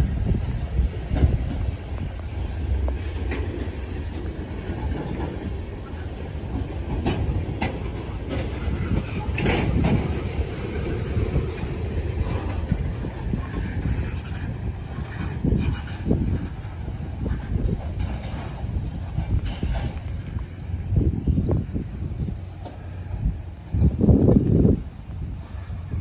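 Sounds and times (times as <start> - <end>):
clicks and clanks over track: 0.0 - 26.0
train wheels rumbling on rails: 0.0 - 26.0.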